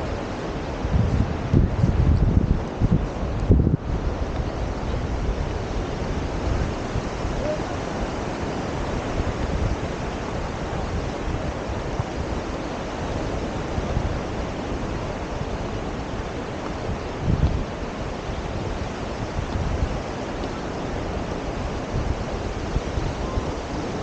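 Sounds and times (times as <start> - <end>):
surf washing on sand: 0.0 - 24.0
wind buffeting microphone: 0.0 - 24.0.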